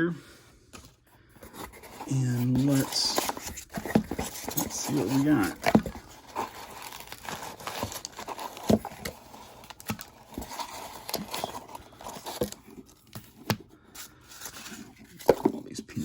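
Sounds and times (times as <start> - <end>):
packaging crinkling and rustling: 0.8 - 15.7.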